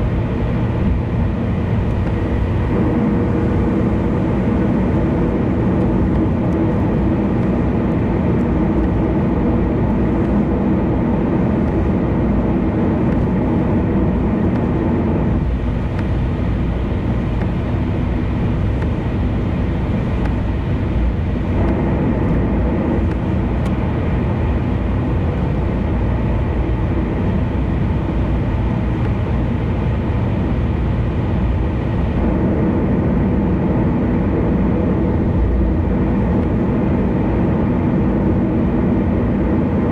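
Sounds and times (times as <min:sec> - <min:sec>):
car driving at speed: 0:00.0 - 0:39.9.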